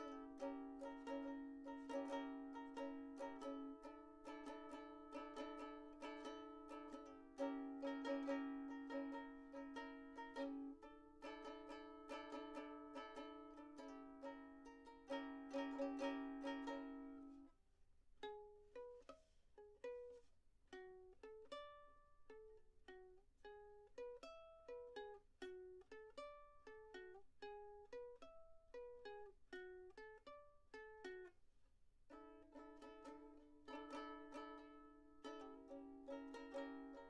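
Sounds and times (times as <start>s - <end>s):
plucked string instrument music: 0.0s - 17.5s, 18.2s - 31.4s, 32.1s - 37.0s.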